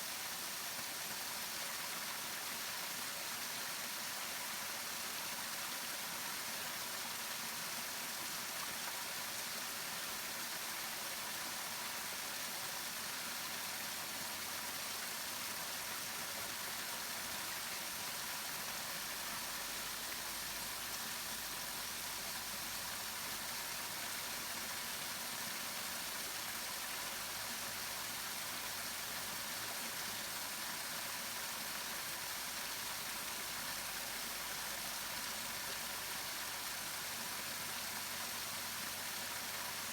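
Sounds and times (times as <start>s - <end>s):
waterfall: 0.0s - 39.9s.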